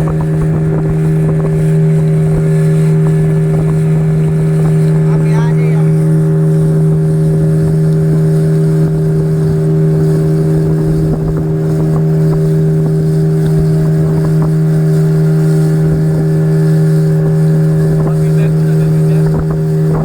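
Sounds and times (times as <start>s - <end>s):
rough rushing water noise: 0.0s - 20.0s
speedboat engine running: 0.0s - 20.0s.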